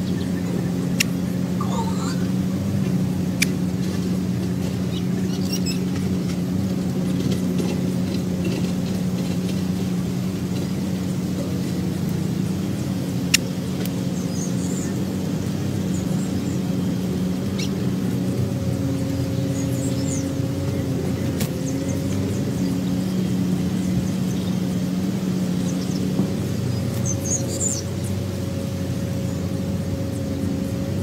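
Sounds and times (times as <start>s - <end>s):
low motor hum: 0.0s - 31.0s.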